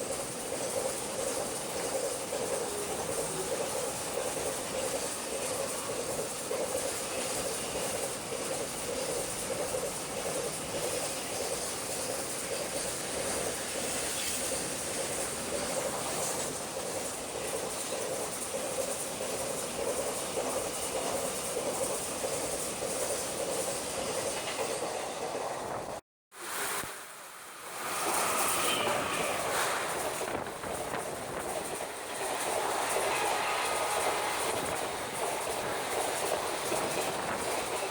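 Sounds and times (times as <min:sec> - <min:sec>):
train wheels on rails: 0:00.0 - 0:37.9.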